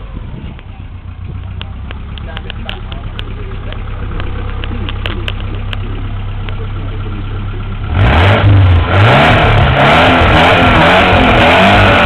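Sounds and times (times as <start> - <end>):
van engine running and revving: 0.0 - 12.0.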